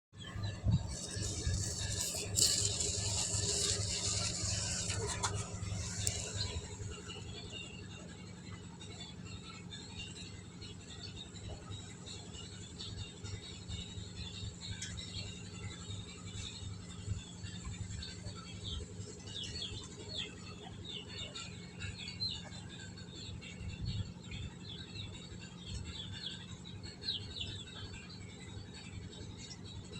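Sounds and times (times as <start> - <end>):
steady low hum: 0.2 - 29.9.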